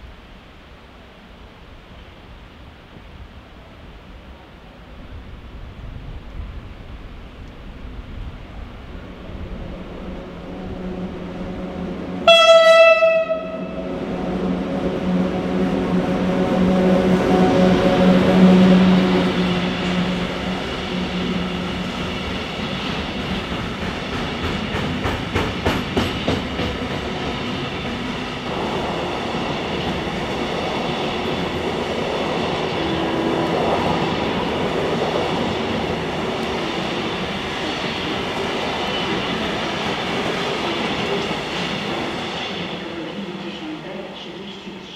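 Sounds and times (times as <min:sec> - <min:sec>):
freight train wheels rumbling: 0:02.8 - 0:44.9.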